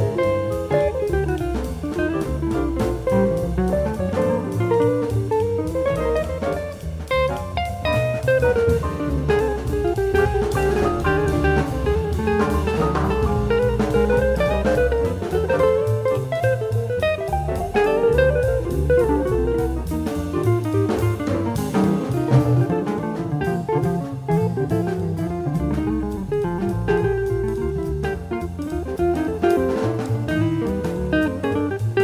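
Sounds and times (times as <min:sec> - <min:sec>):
drum kit cymbals: 0:00.0 - 0:32.0
electric jazz guitar: 0:00.0 - 0:32.0
walking bass: 0:00.0 - 0:32.0.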